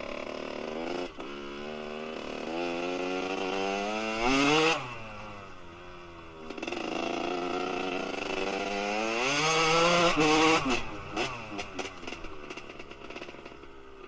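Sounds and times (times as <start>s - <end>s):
two-stroke engine revving: 0.0s - 5.6s, 6.4s - 13.8s.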